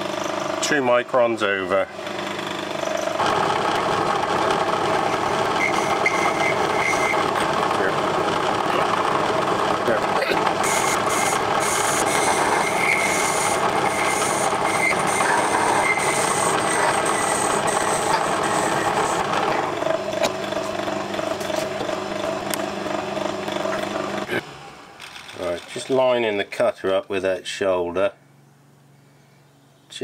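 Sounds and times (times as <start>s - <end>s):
metal lathe running: 0.0s - 24.4s.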